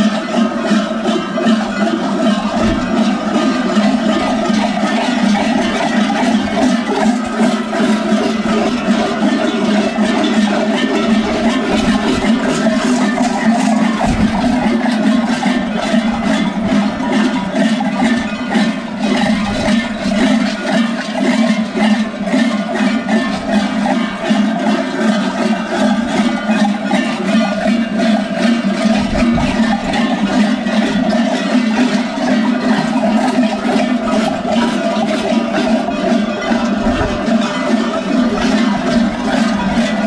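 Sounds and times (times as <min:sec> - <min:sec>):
goat bells clanging: 0:00.0 - 0:40.0.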